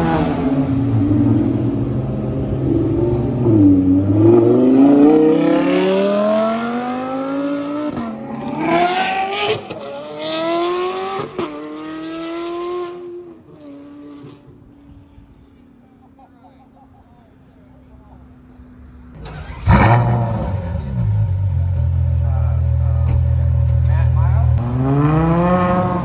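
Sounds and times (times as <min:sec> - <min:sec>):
sports car engine accelerating: 0:00.0 - 0:14.6, 0:19.1 - 0:26.0.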